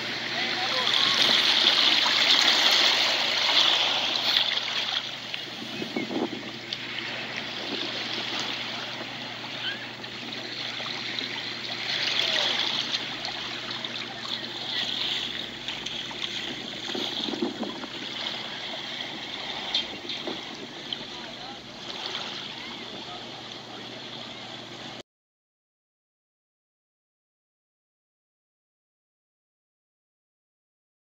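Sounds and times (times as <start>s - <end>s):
water lapping at shoreline: 0.0s - 25.0s.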